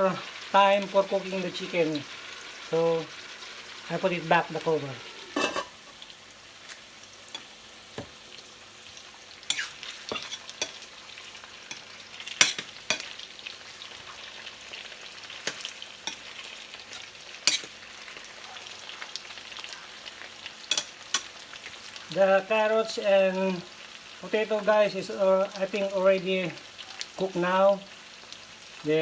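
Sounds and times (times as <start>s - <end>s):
pot sizzling: 0.0s - 29.0s.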